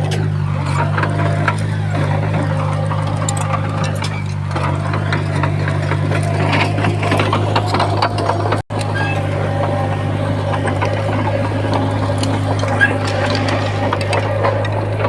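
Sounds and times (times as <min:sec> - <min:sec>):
clanks and rattles: 0:00.0 - 0:15.0
diesel machinery engine drone: 0:00.0 - 0:15.0.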